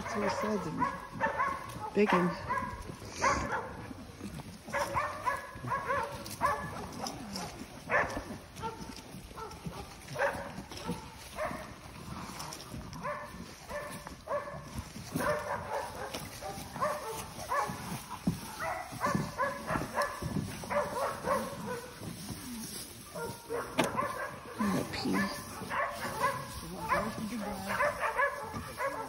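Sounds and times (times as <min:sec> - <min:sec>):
dogs barking: 0:00.0 - 0:29.0.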